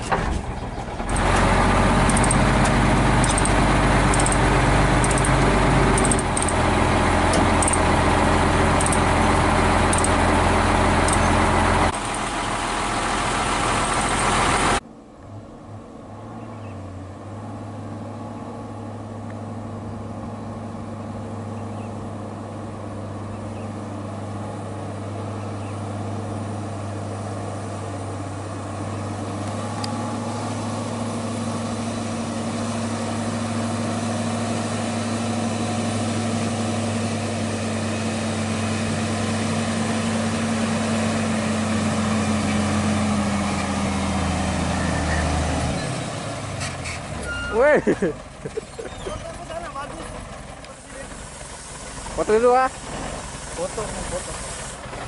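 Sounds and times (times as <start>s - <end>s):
diesel truck engine idling: 0.0s - 55.0s
truck driving up dirt road: 0.0s - 55.0s.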